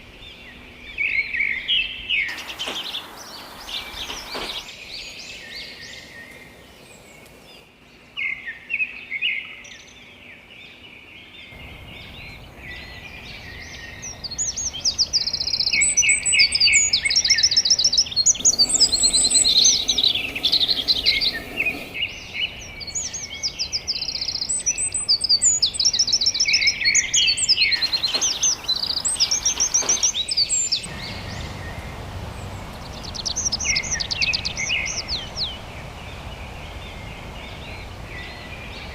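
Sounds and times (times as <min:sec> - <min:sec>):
songbirds singing and chirping: 0:00.0 - 0:38.9
background hiss: 0:02.1 - 0:08.1, 0:11.6 - 0:38.9.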